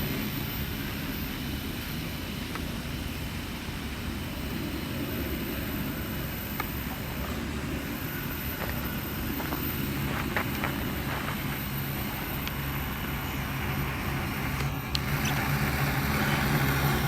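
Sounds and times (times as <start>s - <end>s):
drone rotor hum: 0.0s - 17.0s.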